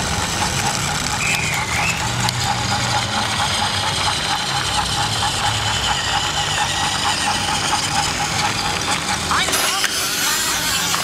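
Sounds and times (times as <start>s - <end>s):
quick even clicking of wheels: 0.0s - 11.0s
toy train motor whirring: 0.0s - 11.0s.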